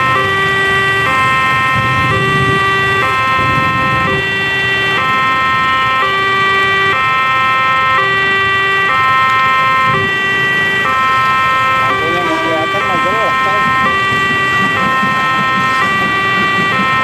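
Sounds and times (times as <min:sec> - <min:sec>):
road traffic: 0:00.0 - 0:17.0
two-tone crossing alarm: 0:00.0 - 0:17.0.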